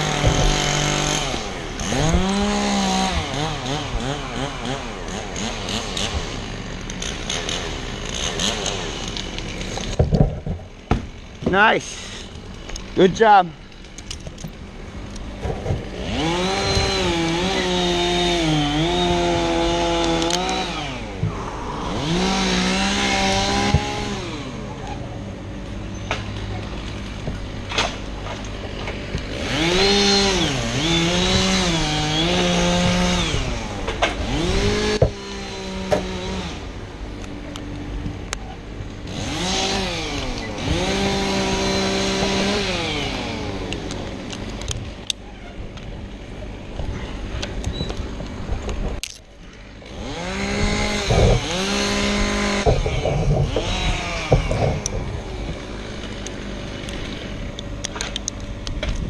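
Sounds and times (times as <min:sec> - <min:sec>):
chainsaw cutting wood: 0:00.0 - 0:25.1, 0:26.2 - 0:45.2, 0:45.9 - 0:59.0.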